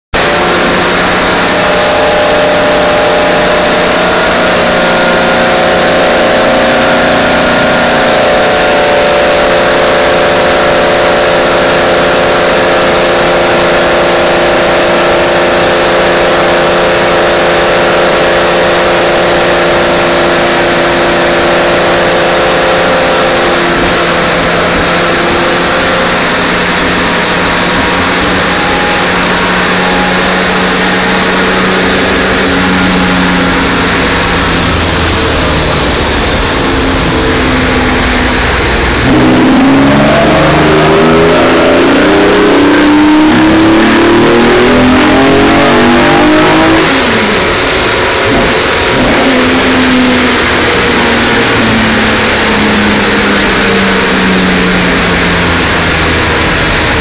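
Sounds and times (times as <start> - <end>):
race car engine running: 0.1 - 57.0.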